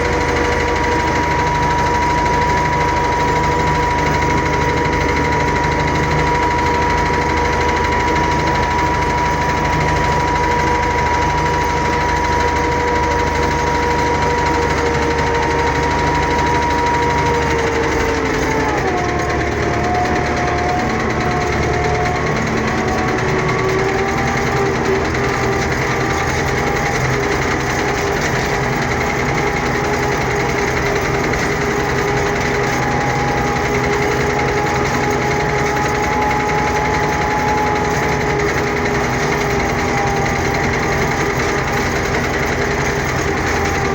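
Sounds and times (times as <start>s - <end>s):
farm machine engine running: 0.0s - 43.9s.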